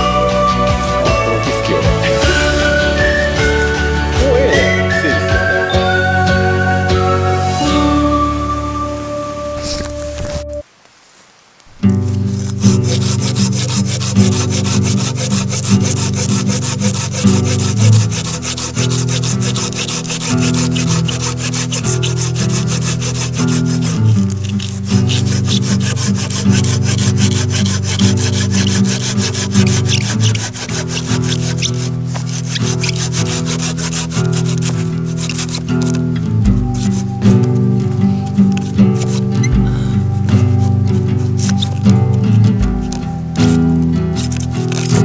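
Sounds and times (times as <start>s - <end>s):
pruning saw cutting wood: 0.0s - 6.0s, 12.1s - 45.0s
background music: 0.0s - 10.6s, 11.9s - 45.0s.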